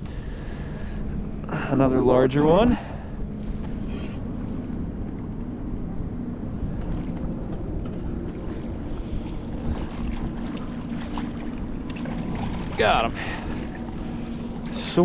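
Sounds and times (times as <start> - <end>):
water lapping around kayak: 0.0 - 15.0
wind: 0.0 - 15.0.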